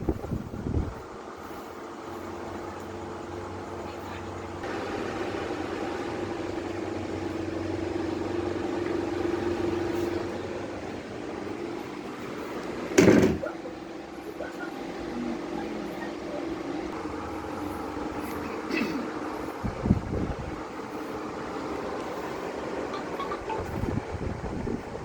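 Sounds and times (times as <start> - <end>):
mechanical hum with low drone: 0.0 - 25.0.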